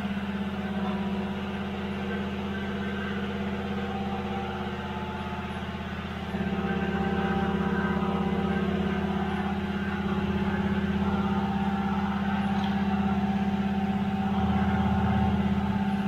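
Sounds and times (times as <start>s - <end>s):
motor pulsing hum: 0.0s - 16.0s.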